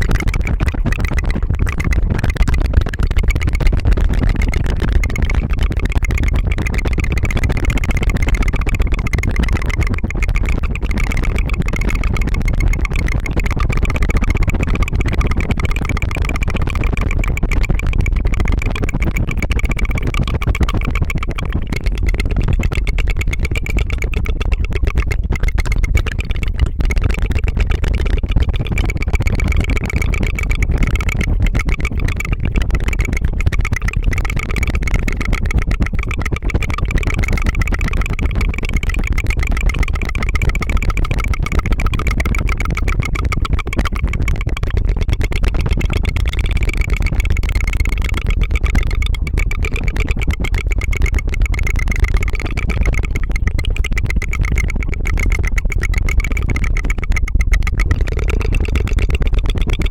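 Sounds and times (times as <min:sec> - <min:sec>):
rolled tongue trill: 0:00.0 - 0:59.9.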